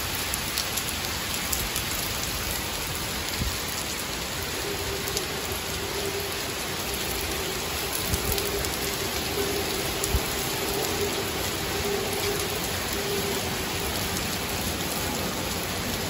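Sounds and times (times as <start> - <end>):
torrential rain: 0.0 - 16.0.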